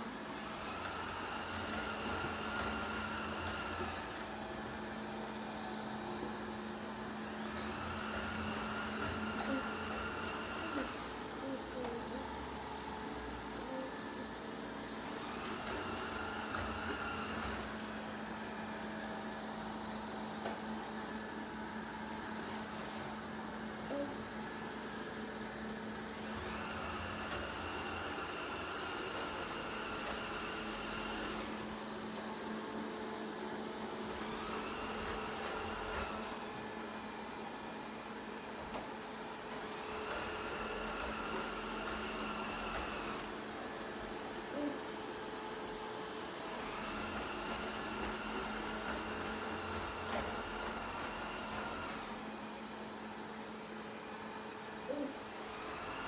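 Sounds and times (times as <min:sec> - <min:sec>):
robot vacuum motor hum: 0:00.0 - 0:56.0.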